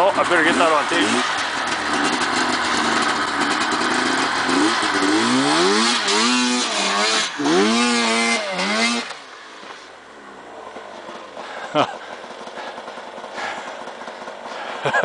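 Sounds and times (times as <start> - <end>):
snowmobile engine revving: 0.0 - 9.4, 10.7 - 15.0.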